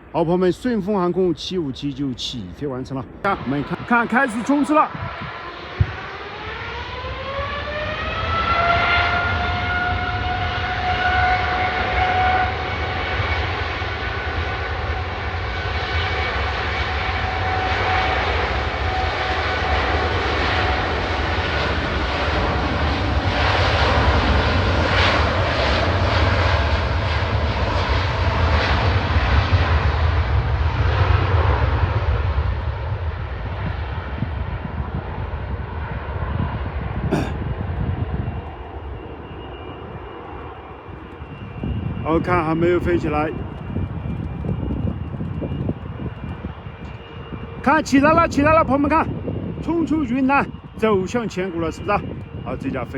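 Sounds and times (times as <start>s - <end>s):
jet engines whining and roaring: 0.0s - 52.9s.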